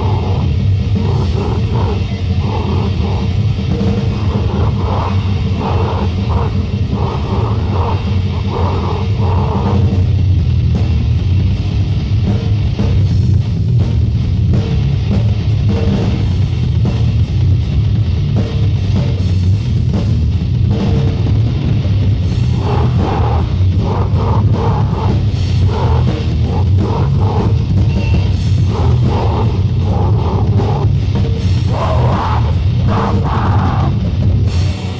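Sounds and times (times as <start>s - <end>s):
death metal music: 0.0s - 34.9s.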